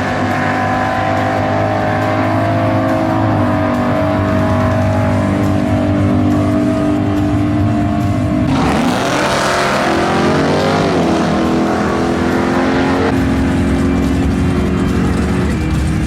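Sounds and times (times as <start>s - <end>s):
car revving and accelerating away: 0.0s - 16.0s
drag race car engines running: 0.0s - 16.0s.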